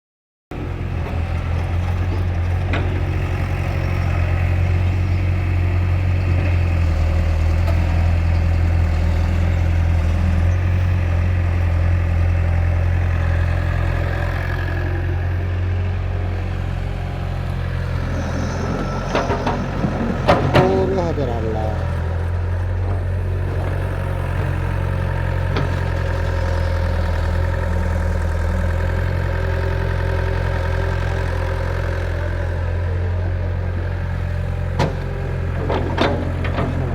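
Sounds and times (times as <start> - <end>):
tractor diesel engine running: 0.6 - 36.9.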